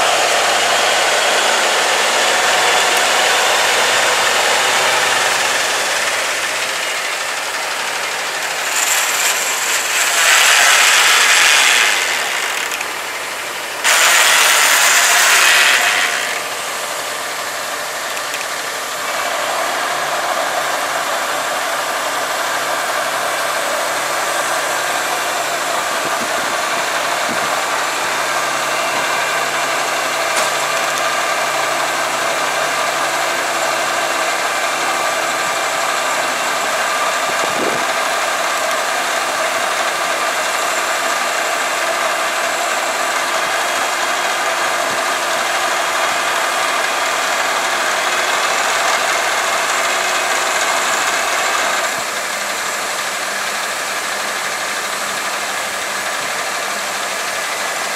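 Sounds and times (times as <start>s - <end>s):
diesel truck engine running: 0.0s - 57.9s
hydraulic hoist raising: 0.0s - 57.9s.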